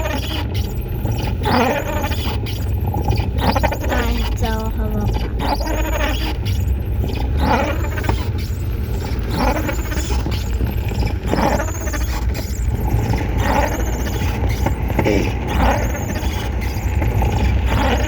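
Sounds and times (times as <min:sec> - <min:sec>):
squeal: 0:00.0 - 0:18.0.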